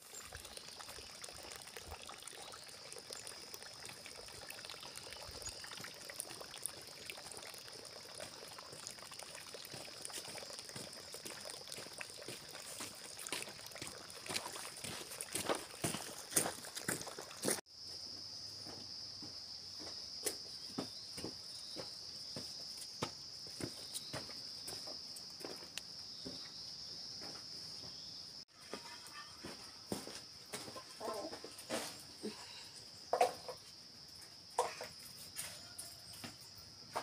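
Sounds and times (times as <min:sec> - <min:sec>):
insects chorus: 0:00.0 - 0:37.0.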